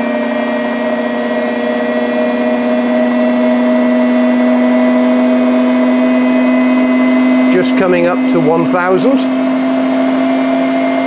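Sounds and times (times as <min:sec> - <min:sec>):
washing machine spin whine: 0:00.0 - 0:11.0.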